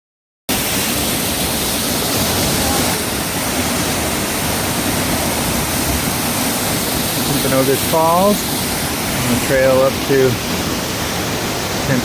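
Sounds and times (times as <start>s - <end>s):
waterfall rushing: 0.5s - 12.0s.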